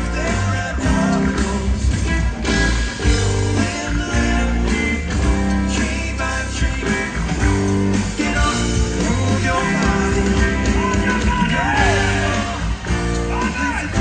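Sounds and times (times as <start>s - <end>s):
live rock band playing: 0.0s - 14.0s
man singing: 0.0s - 14.0s.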